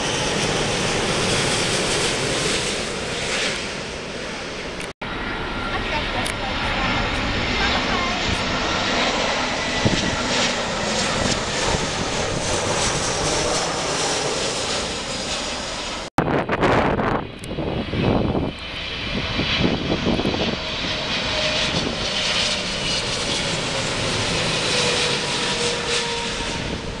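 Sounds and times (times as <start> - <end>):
jet airliner engine rumble and whine: 0.0 - 27.0.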